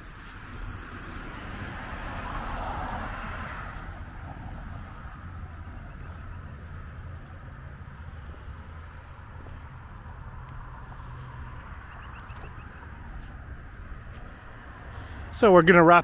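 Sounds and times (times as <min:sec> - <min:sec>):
car passing: 0:00.0 - 0:16.0
low rumble of traffic: 0:00.0 - 0:16.0.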